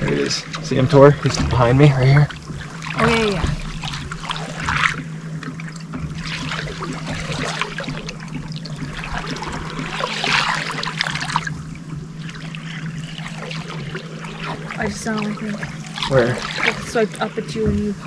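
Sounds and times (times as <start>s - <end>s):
steady low hum: 0.0s - 18.0s
water lapping against boat: 0.0s - 18.0s.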